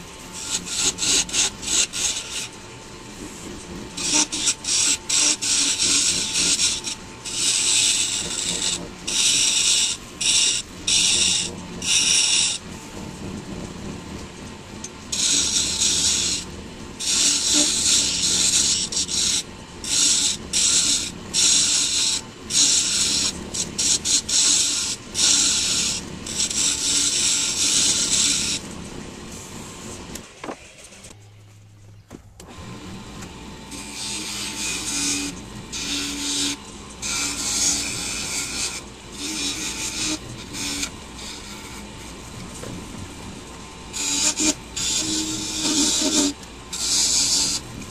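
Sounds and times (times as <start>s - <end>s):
tool scraping on spinning wood: 0.0s - 31.8s, 32.5s - 47.9s
low motor hum: 0.0s - 47.9s.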